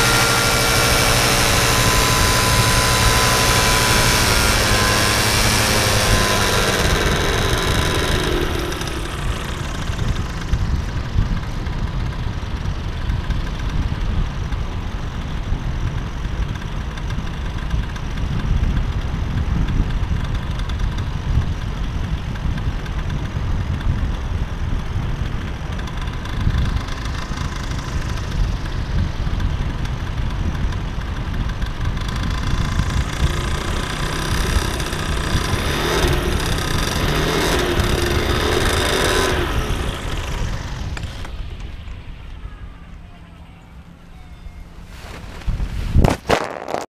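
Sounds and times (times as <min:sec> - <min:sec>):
paramotor engine and propeller: 0:00.0 - 0:46.9
wind rumble on microphone: 0:00.0 - 0:46.9.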